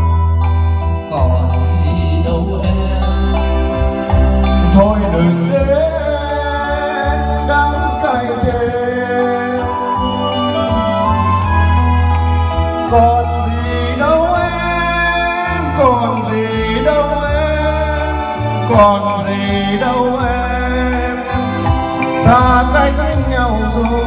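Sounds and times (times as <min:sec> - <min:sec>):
bass-heavy music over loudspeakers: 0:00.0 - 0:24.0
man singing: 0:00.9 - 0:11.4, 0:12.7 - 0:24.0.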